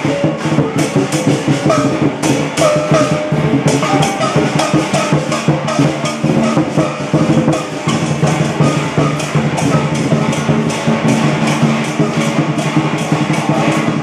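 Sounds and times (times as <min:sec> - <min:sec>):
loud drum and percussion music: 0:00.0 - 0:14.0.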